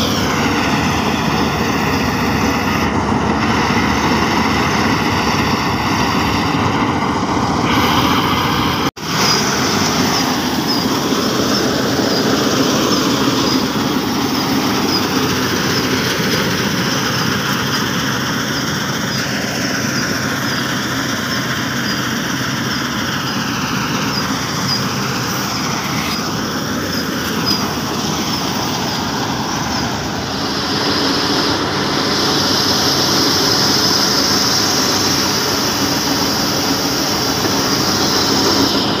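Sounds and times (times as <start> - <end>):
diesel engine running: 0.0 - 39.0
harvester threshing machinery: 0.0 - 39.0
thin high whine: 0.0 - 39.0.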